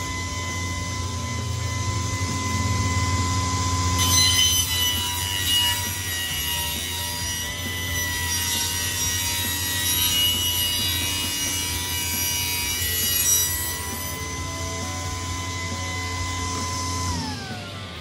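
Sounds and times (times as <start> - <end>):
saw motor whine: 0.0 - 18.0
table saw cutting wood: 0.0 - 18.0.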